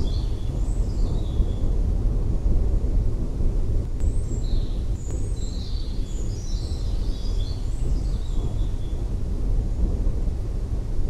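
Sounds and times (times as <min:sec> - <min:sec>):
low storm rumble: 0:00.0 - 0:11.0.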